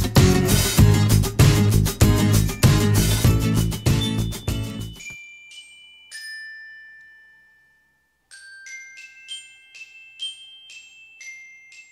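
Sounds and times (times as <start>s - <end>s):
glockenspiel notes ringing: 2.1s - 11.9s.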